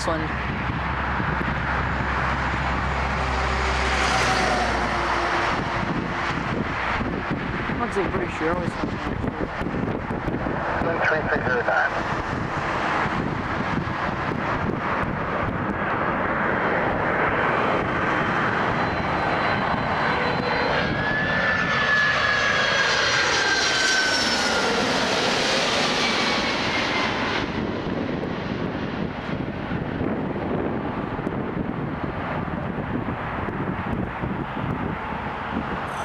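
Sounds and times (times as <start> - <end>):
high jet engine whine: 0.0 - 36.0
jet engines passing overhead: 0.0 - 36.0.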